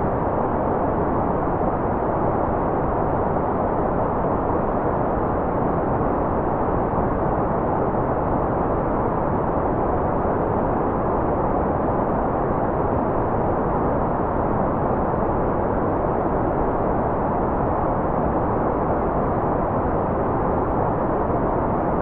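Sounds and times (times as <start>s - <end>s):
steady white noise hiss: 0.0s - 22.0s.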